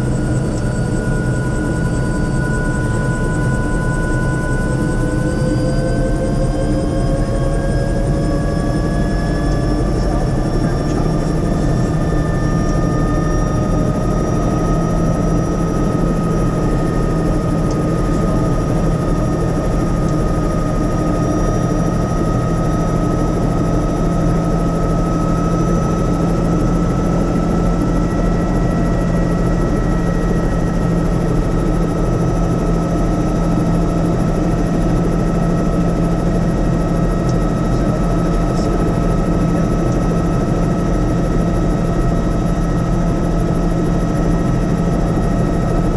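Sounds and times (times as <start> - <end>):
helicopter rotor and engine drone: 0.0 - 45.9
high engine whine: 0.0 - 45.9.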